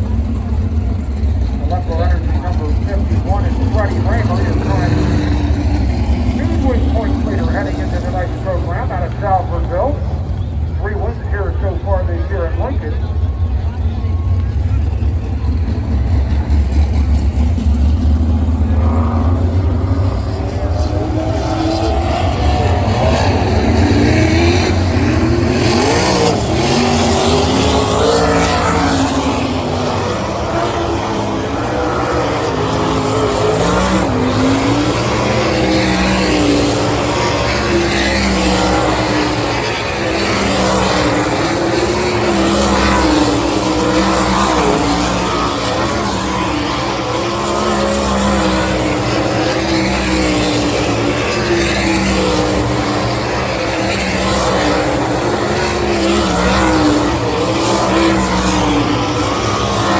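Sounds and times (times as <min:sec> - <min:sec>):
race car engines running laps: 0:00.0 - 0:59.9.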